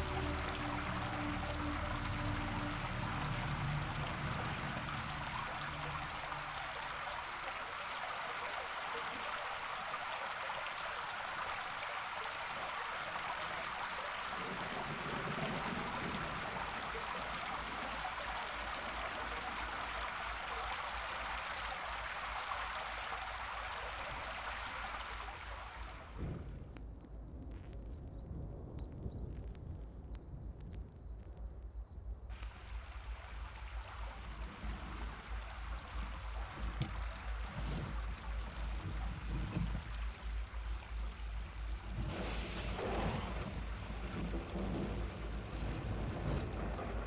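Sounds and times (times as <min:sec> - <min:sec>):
rushing water noise: 0:00.0 - 0:26.2, 0:32.3 - 0:47.0.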